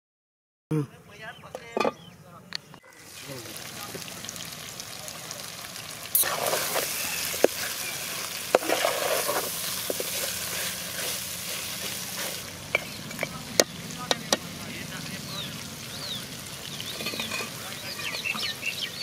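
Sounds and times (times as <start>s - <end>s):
chicken sizzling in a pot: 2.8s - 19.0s.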